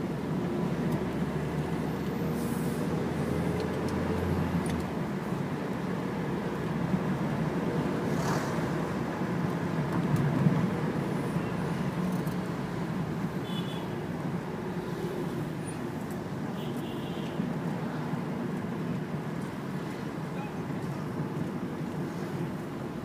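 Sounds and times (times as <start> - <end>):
car engine and road noise inside: 0.0 - 23.0.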